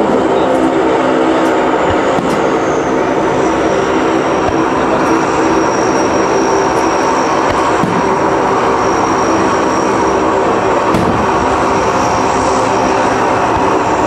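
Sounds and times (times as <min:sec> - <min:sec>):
high whine dropping in pitch: 0:00.0 - 0:14.0.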